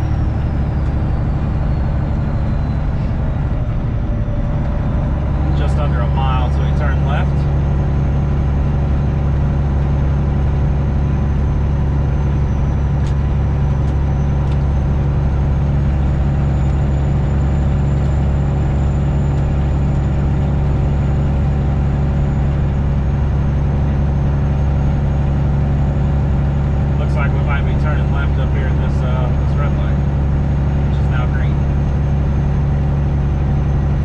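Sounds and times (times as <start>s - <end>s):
truck diesel engine drone: 0.0s - 34.0s.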